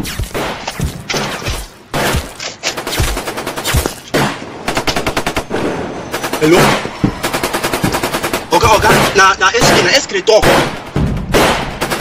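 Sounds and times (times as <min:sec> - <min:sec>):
gunshot bursts: 0:00.0 - 0:12.0.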